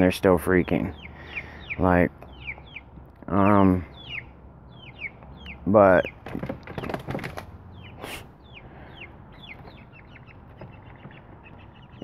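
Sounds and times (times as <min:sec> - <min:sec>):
hens calling agitatedly: 0:00.0 - 0:12.0.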